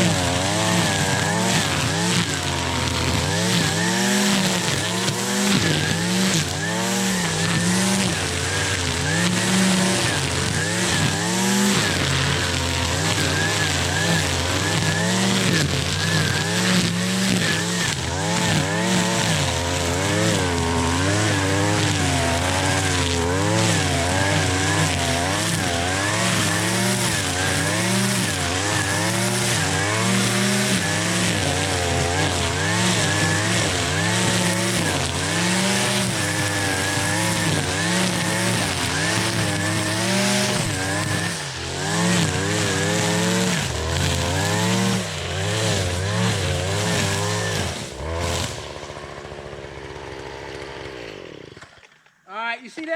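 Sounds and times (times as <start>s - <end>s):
string trimmer engine revving: 0.0s - 52.2s
trimmer line cutting grass: 0.0s - 52.2s.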